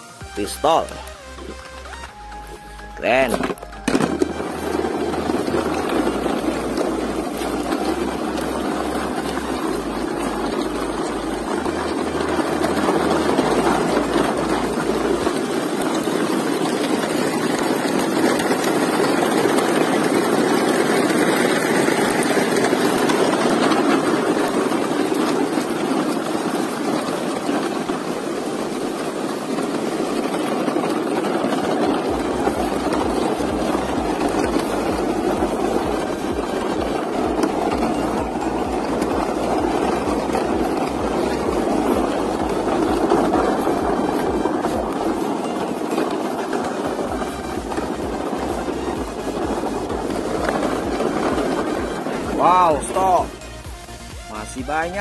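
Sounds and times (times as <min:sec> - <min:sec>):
rattling loads: 0:00.0 - 0:55.0
toy trucks rolling on dirt: 0:00.0 - 0:55.0.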